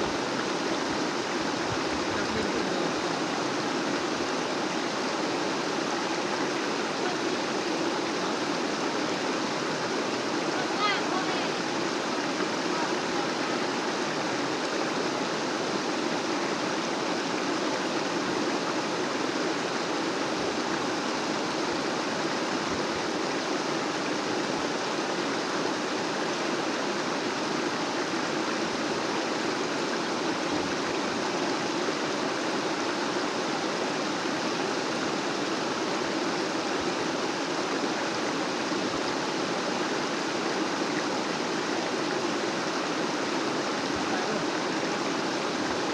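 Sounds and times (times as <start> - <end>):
water rushing: 0.0 - 45.9.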